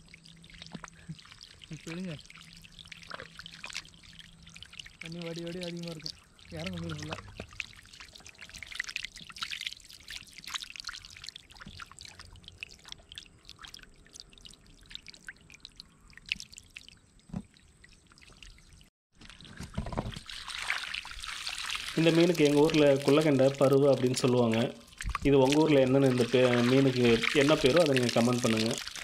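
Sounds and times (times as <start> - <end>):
running water: 0.0 - 29.0
small fish splashing: 0.2 - 17.0, 20.2 - 29.0.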